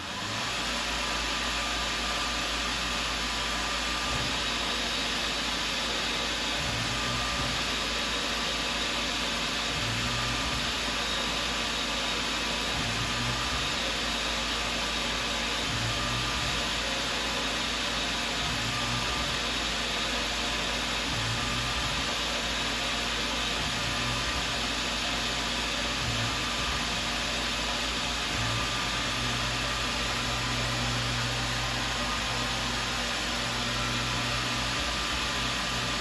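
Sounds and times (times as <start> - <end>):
milling machine hissing: 0.0 - 36.0.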